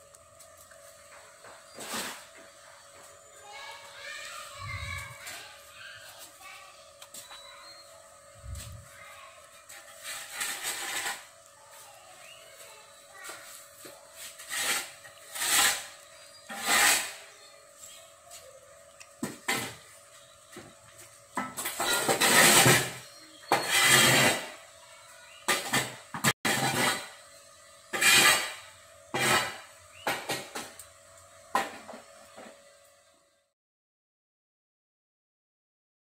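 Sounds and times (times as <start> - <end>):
close rustling and scraping: 0.2 - 27.3, 27.9 - 30.8.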